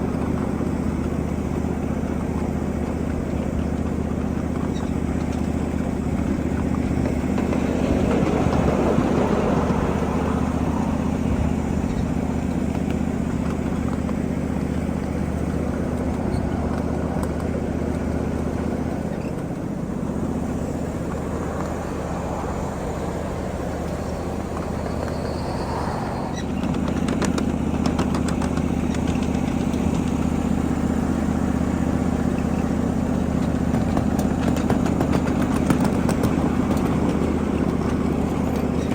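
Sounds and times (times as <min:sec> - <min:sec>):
locomotive engine humming: 0:00.0 - 0:38.9
train rumbling on track: 0:00.0 - 0:38.9.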